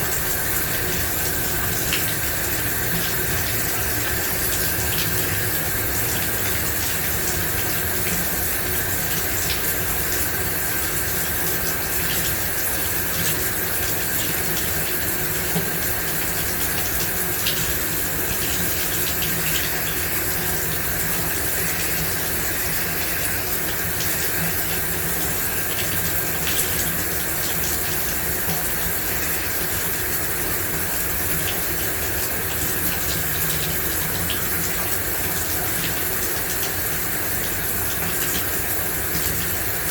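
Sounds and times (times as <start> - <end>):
shower spray running: 0.0 - 39.9.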